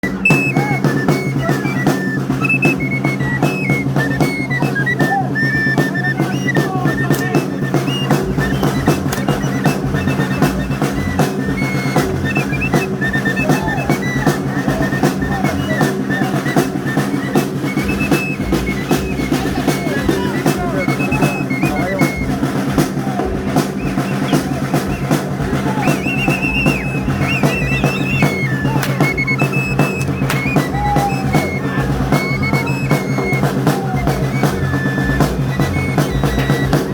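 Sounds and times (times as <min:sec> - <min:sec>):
fast continuous drumming: 0:00.0 - 0:36.9
high wind instrument melody: 0:00.0 - 0:36.9.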